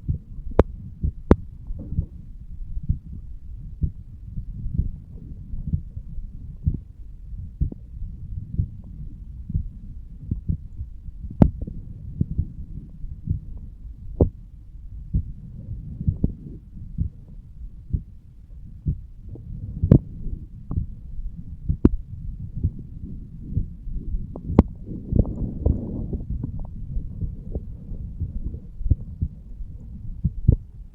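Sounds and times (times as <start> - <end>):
heartbeat: 0.0 - 30.9
low rumbling: 0.0 - 30.9.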